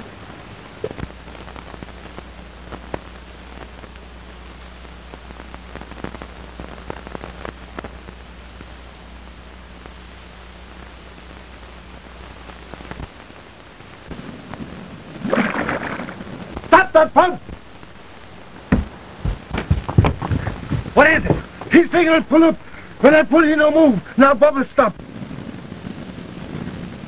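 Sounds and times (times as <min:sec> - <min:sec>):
film soundtrack hiss and crackle: 0:00.0 - 0:27.0
steady low hum: 0:00.0 - 0:27.0.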